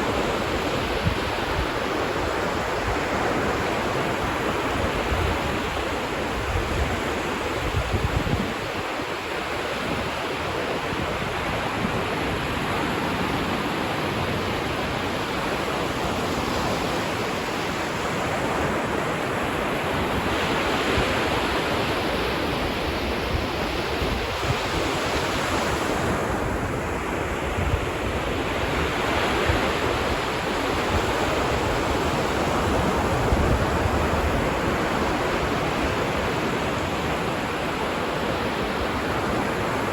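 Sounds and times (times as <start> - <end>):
ocean surf washing onto beach: 0.0 - 39.9
wind rumble on microphone: 0.0 - 39.9.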